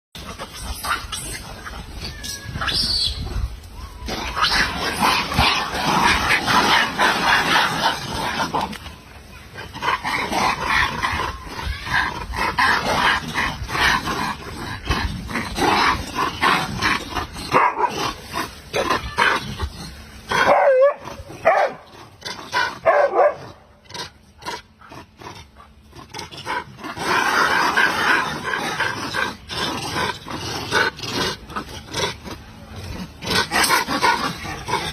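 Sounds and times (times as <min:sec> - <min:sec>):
dogs barking and yelping: 0:00.2 - 0:34.9.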